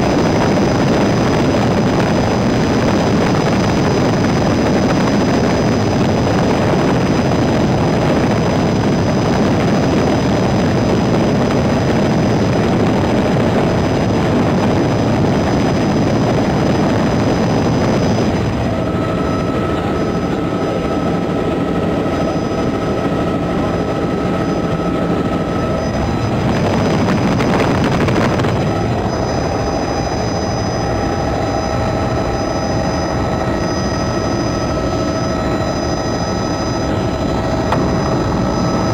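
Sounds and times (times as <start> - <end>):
helicopter rotor and engine: 0.0 - 38.9.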